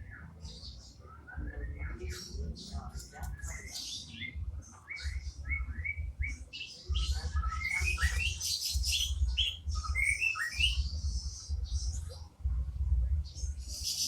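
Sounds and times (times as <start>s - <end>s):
bird singing chirps and trills: 0.0s - 14.0s
low pulsing rumble: 0.0s - 14.0s.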